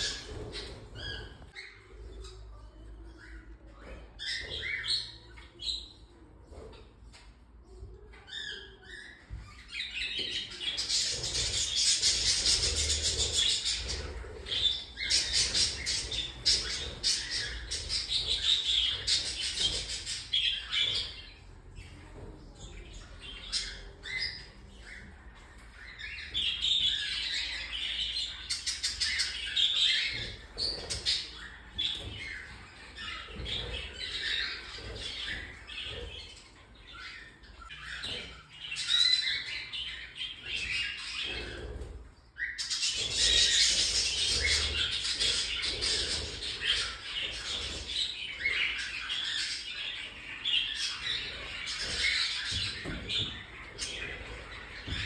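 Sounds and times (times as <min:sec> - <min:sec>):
cockatiels chirping and squawking: 0:00.0 - 0:55.0.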